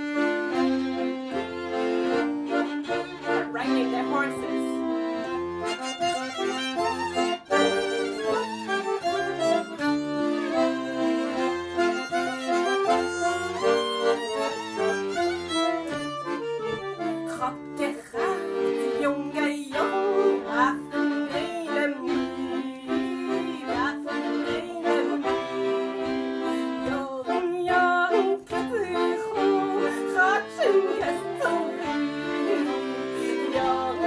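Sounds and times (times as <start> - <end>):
accordion chords: 0.0 - 34.0
violin playing: 0.0 - 34.0.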